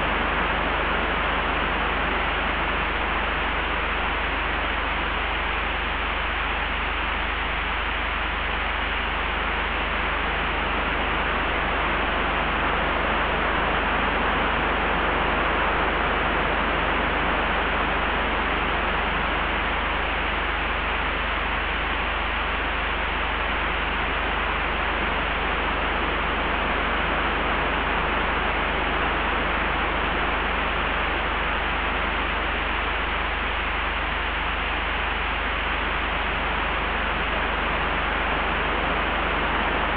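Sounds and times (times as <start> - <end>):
low wind rumble: 0.0 - 39.9.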